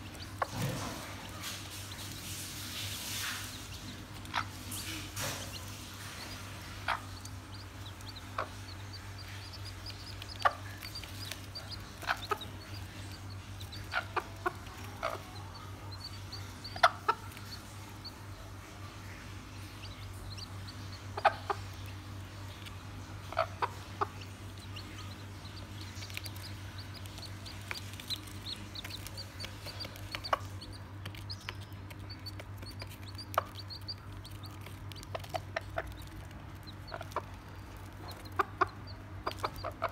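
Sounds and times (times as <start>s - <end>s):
chicks peeping: 0.0s - 39.9s
hen clucking: 0.0s - 39.9s
steady low hum: 0.0s - 39.9s.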